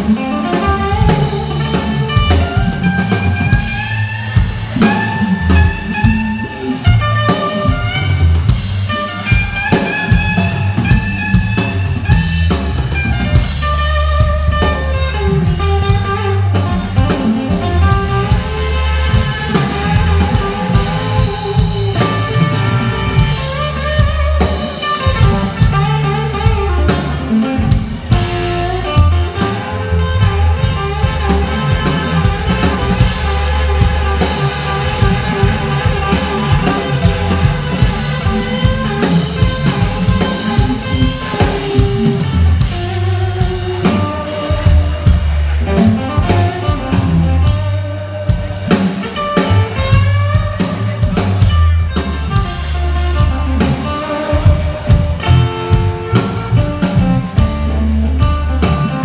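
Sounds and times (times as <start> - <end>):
blues band playing: 0.0 - 59.0
electric guitar lead notes: 0.0 - 59.0.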